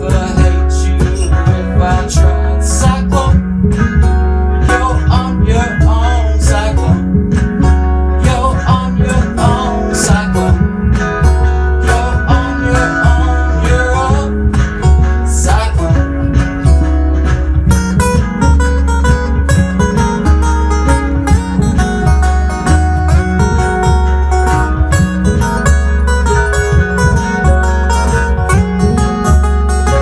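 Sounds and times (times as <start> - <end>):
acoustic guitar lead: 0.0 - 30.0
bass: 0.0 - 30.0
drums with cymbal hits: 0.0 - 30.0
strummed acoustic guitar: 0.0 - 30.0.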